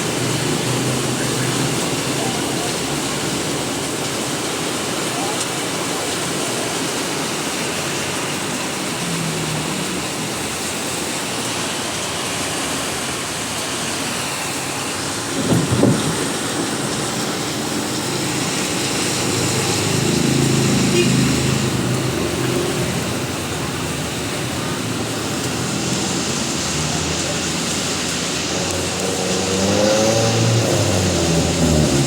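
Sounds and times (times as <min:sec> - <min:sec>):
steady rain hissing: 0:00.0 - 0:32.0
vehicle engine hum: 0:00.0 - 0:32.0.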